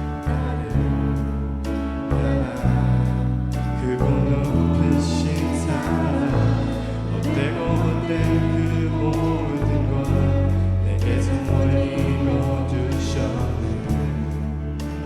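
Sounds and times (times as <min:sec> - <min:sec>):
band with bass and drums: 0:00.0 - 0:15.0
voices singing together: 0:00.0 - 0:15.0.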